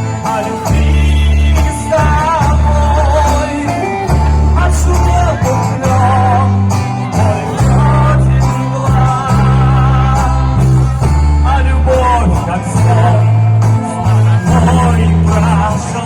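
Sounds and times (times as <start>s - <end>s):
bass line: 0.0s - 16.0s
live band playing pop song: 0.0s - 16.0s
person singing: 0.0s - 16.0s.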